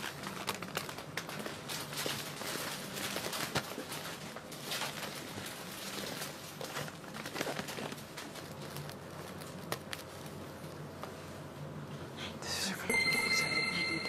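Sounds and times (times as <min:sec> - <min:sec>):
cellophane crinkling: 0:00.0 - 0:11.5.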